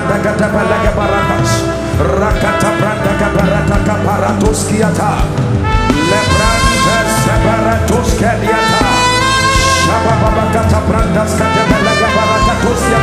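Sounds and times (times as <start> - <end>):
congregational prayer: 0.0 - 13.0
worship band music: 0.0 - 13.0.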